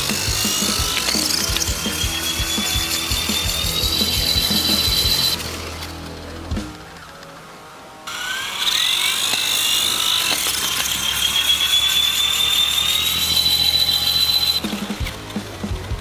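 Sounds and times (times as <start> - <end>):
toy helicopter motor whine: 0.0 - 6.2, 8.0 - 15.2.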